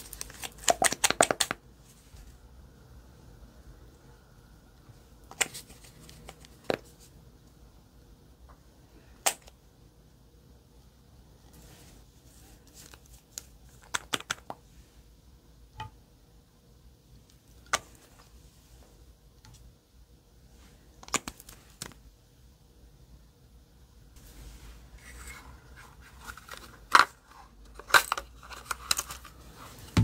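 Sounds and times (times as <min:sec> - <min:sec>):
faint room hiss: 0:00.0 - 0:30.0.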